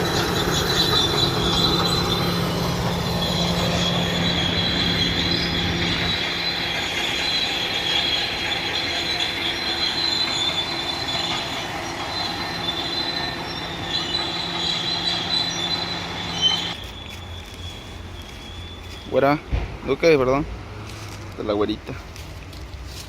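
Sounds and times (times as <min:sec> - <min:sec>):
bulldozer engine hum: 0:00.0 - 0:19.3
steel tracks squealing: 0:00.0 - 0:22.1.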